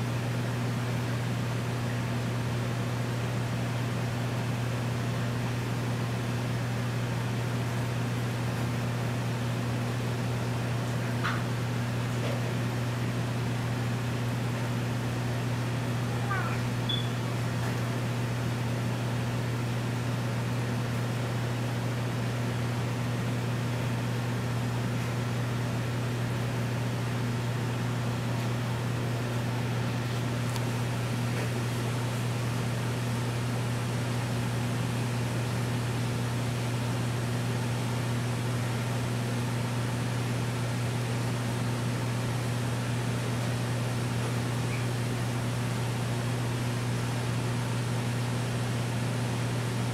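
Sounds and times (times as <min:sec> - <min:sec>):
low electrical hum: 0:00.0 - 0:49.9.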